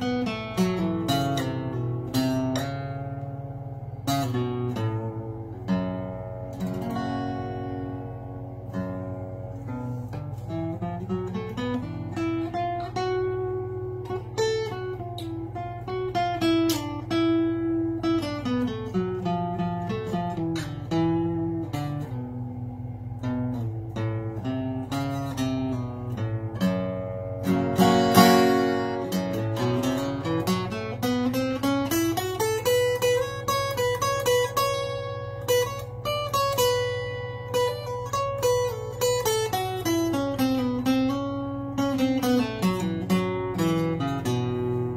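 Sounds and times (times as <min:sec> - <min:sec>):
fingerpicked acoustic guitar: 0:00.0 - 0:44.9.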